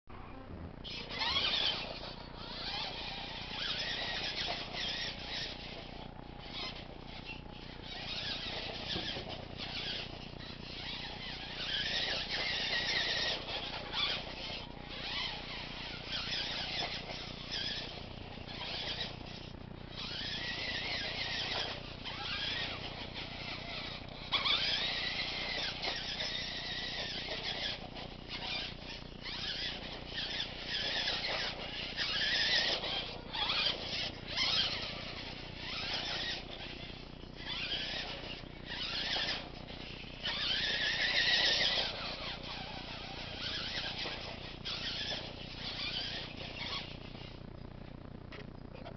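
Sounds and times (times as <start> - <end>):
toy truck motor and gears whining: 0.2 - 48.9.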